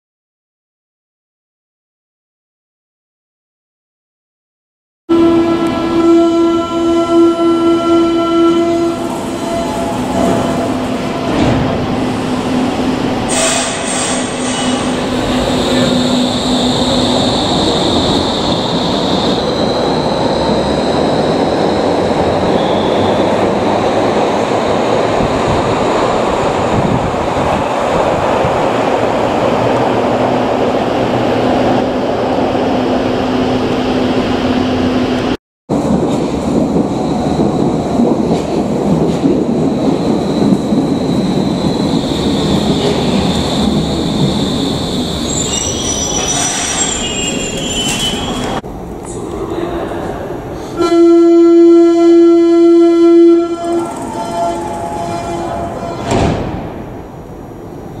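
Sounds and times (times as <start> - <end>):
train wheels rumbling on rails: 8.5 - 50.8, 52.6 - 58.0.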